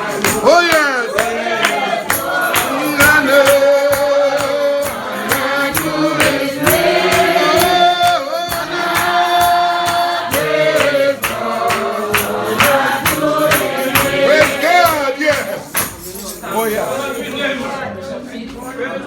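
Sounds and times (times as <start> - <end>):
steady percussion beat: 0.0 - 17.3
congregation singing a hymn: 0.0 - 18.0.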